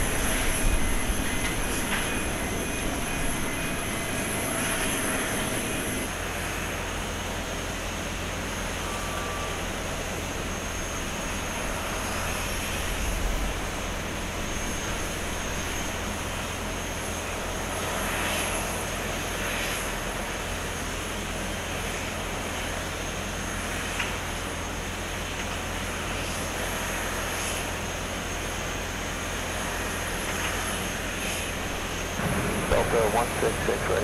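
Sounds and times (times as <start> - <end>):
jet airliner engine whine and rumble: 0.0 - 34.0.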